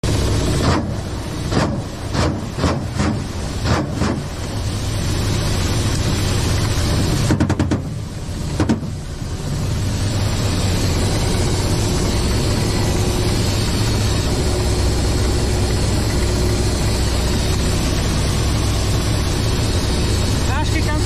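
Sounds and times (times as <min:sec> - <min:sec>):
helicopter engines and rotors droning: 0:00.0 - 0:21.0.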